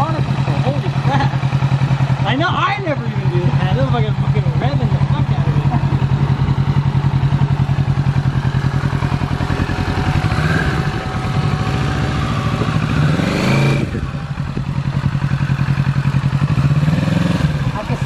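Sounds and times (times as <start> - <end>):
motorcycle engine idling: 0.0 - 18.0
motorcycle engine revving: 0.0 - 18.0.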